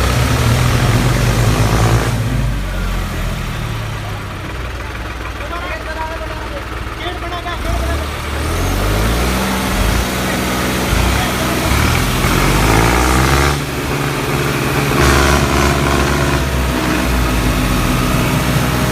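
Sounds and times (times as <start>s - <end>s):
diesel engine revving: 0.0s - 18.9s.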